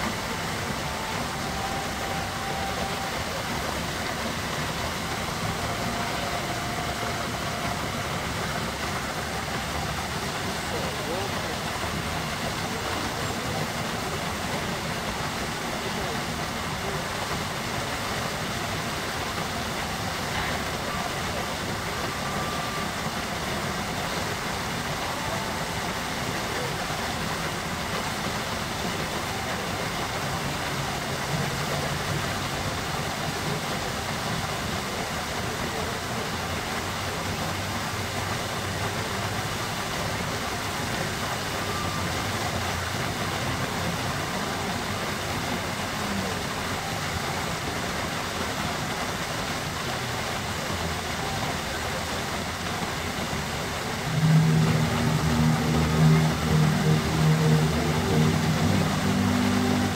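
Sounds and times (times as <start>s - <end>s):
fountain water splashing: 0.0s - 59.9s.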